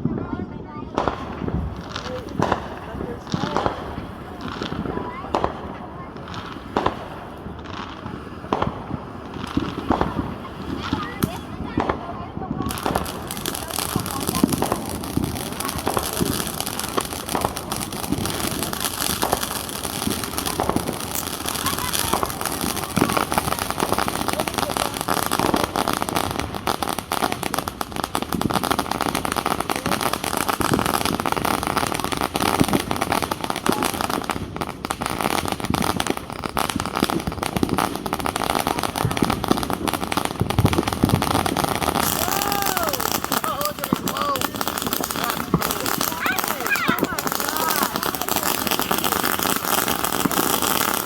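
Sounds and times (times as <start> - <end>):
small fireworks crackling: 0.0 - 51.0.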